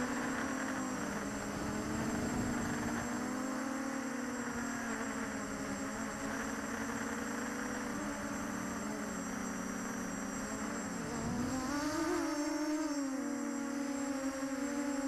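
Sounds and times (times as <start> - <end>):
quadcopter motors buzzing hum: 0.0 - 15.0.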